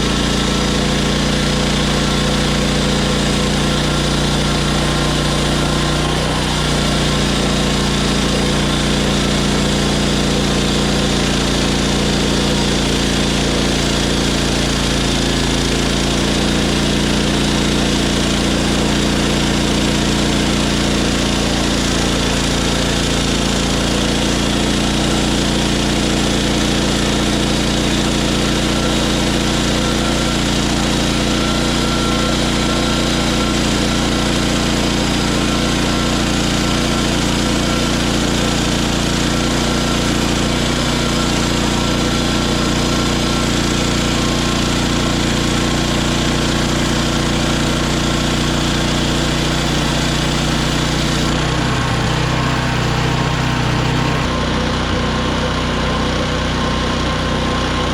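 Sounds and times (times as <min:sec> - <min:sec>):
band blade cutting log: 0:00.0 - 0:55.3
sawmill engine running: 0:00.0 - 0:57.9.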